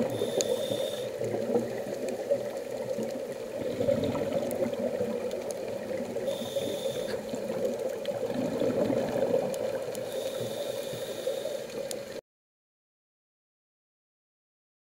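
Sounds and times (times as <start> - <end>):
faint clicks: 0.0 - 12.2
muffled underwater rush: 0.0 - 12.2.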